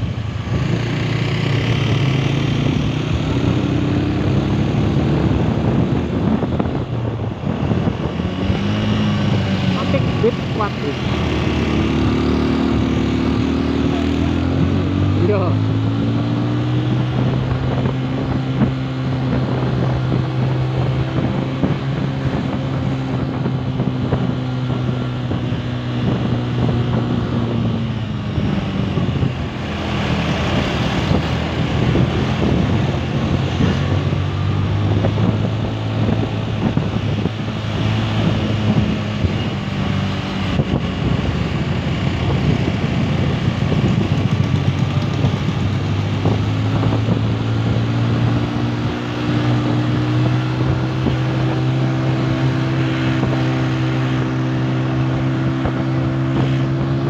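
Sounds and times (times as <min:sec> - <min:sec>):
motorcycle engine running: 0:00.0 - 0:57.0
wind on the microphone: 0:00.0 - 0:57.0.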